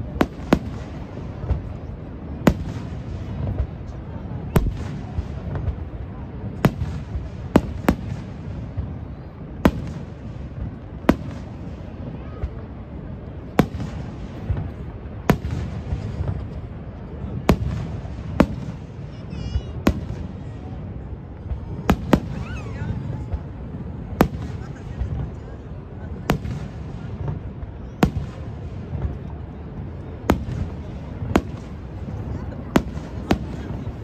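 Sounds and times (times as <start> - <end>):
crowd voices: 0.0 - 34.0
fireworks bursting: 0.0 - 34.0.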